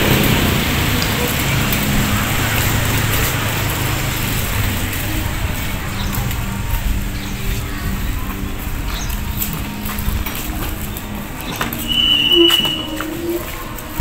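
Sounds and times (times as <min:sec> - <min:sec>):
hand truck rolling over brick paving: 0:00.0 - 0:14.0.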